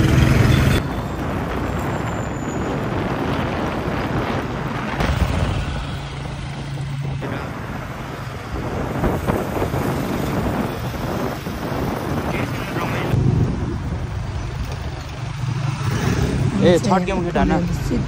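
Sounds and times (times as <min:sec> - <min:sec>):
road and engine noise: 0:00.0 - 0:18.0
wind on microphone: 0:00.8 - 0:16.6.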